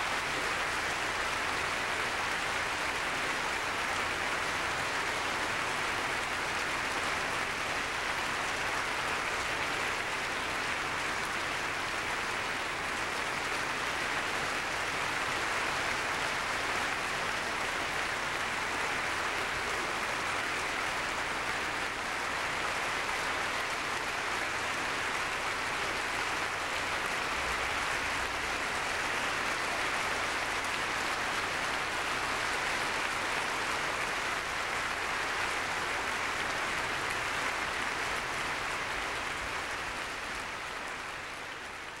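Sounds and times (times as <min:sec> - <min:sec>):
audience applauding: 0:00.0 - 0:42.0.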